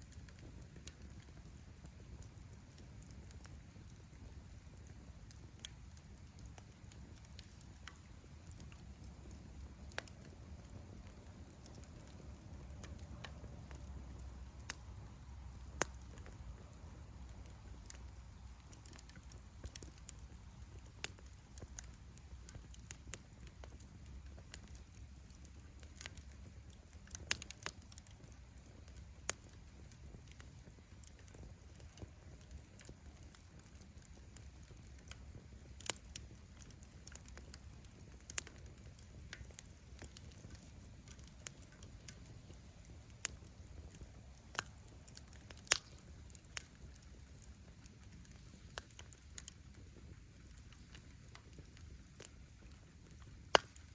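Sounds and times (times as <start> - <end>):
bonfire crackling and popping: 0.0 - 53.9.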